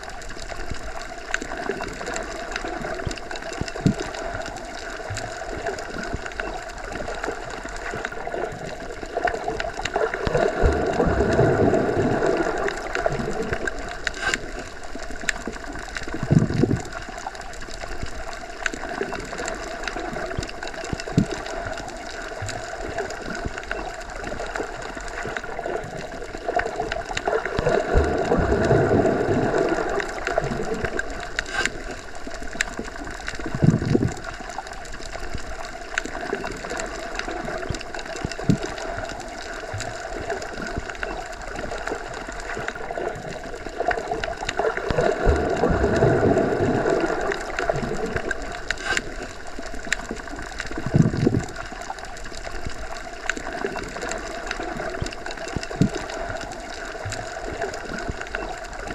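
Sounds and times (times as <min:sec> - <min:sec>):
small underwater clicks: 0:00.0 - 0:58.9
underwater wash and gurgle: 0:00.0 - 0:58.9.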